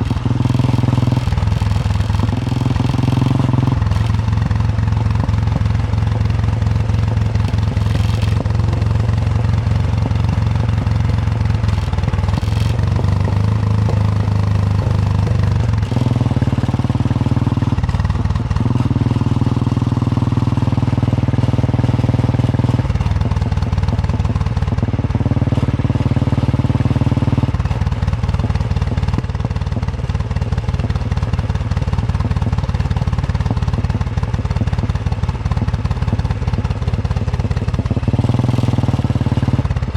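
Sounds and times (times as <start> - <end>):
single-cylinder motorcycle engine thumping: 0.0 - 39.9.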